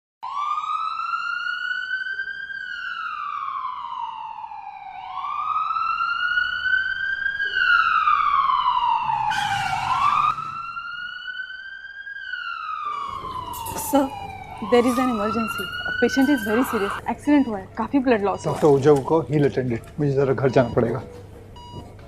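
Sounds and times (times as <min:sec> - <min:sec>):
ambulance siren wailing: 0:00.2 - 0:19.6.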